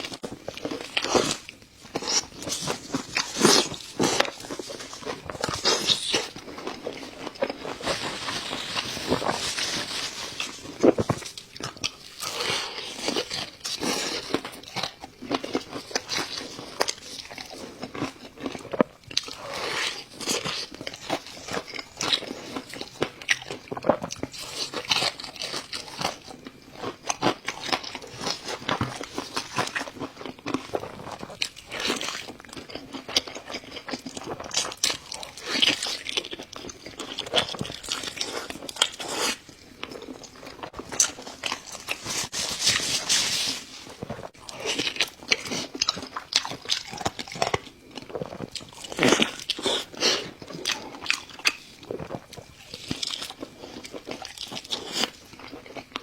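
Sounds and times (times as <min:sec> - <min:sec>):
person chewing crispy food: 0:00.0 - 0:56.0.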